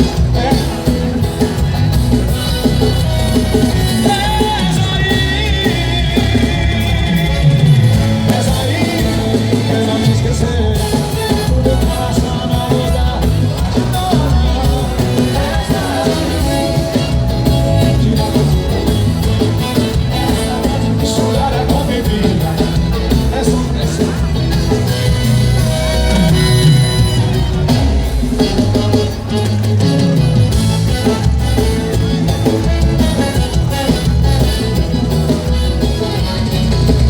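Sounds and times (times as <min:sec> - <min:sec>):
person singing: 0:00.0 - 0:34.7
band playing loudly: 0:00.0 - 0:37.0.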